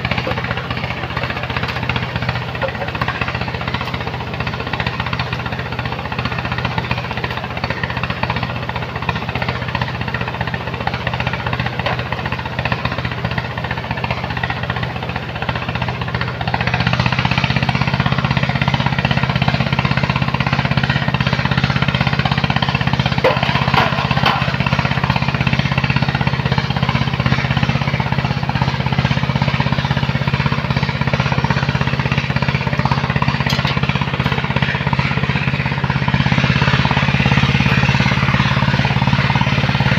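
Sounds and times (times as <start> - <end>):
heavy machine engine clattering: 0.0 - 39.9.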